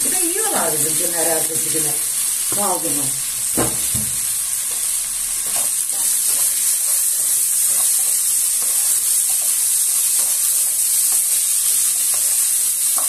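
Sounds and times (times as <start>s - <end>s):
rice sizzling in hot oil: 0.0s - 13.0s.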